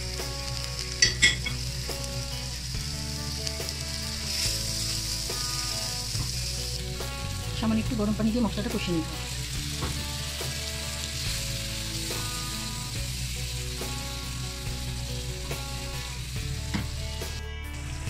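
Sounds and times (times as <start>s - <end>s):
paste sizzling in oil: 0.0s - 18.0s.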